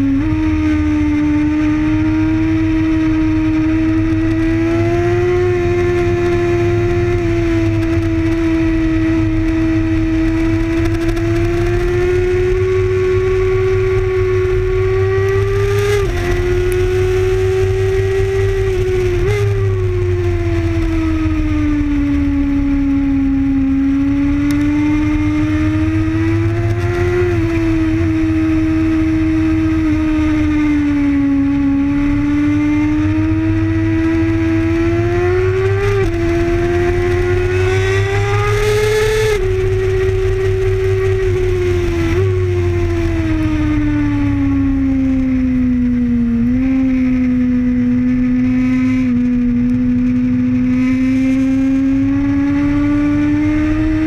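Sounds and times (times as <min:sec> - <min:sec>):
motorcycle engine running hard: 0:00.0 - 0:54.0
wind rumble on microphone: 0:00.0 - 0:54.0.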